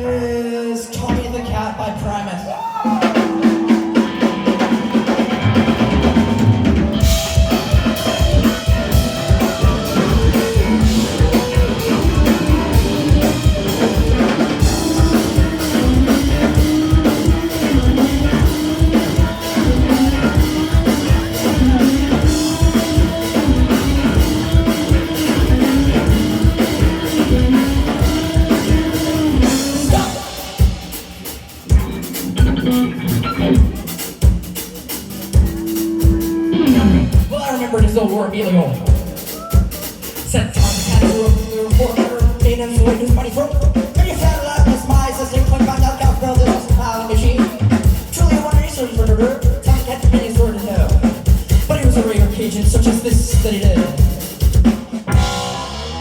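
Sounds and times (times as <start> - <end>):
rapid bass drum beats: 2.8 - 36.3, 37.0 - 56.0
live rock band playing: 2.8 - 56.0.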